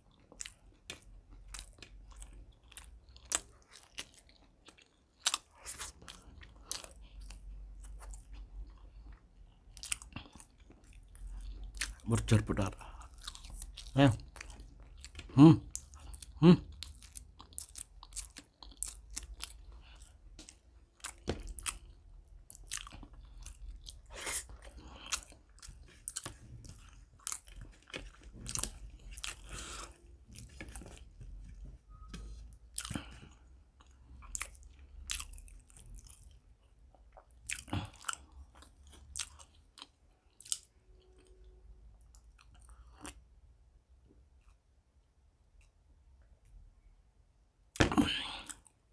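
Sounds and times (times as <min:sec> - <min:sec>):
person chewing food: 0:00.0 - 0:43.4, 0:47.7 - 0:48.9.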